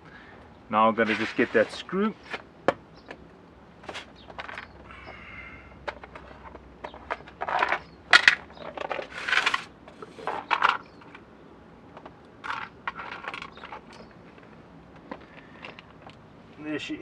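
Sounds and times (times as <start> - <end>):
plastic parts clattering on paving: 0.9 - 3.2, 3.8 - 11.3, 11.9 - 16.2.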